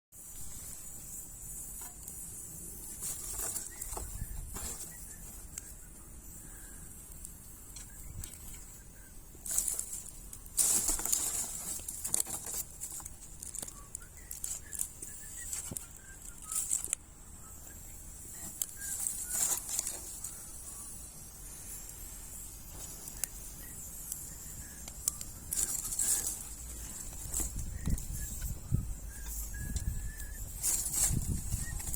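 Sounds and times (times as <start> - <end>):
steady high hiss: 0.2 - 31.9
wood fire crackling and popping: 0.2 - 31.9.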